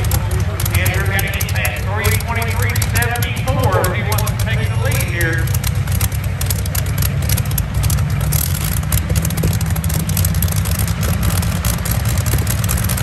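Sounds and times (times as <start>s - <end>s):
aircraft engine idling: 0.0s - 13.0s.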